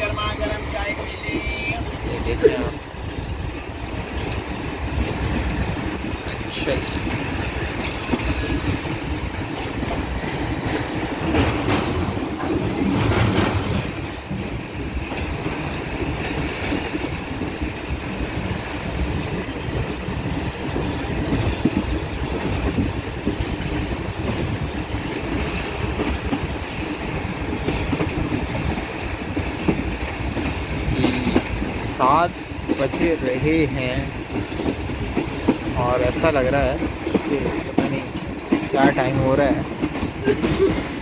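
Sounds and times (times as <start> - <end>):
train coaches rumbling: 0.0 - 41.0
wheels clattering over rail joints: 0.0 - 41.0.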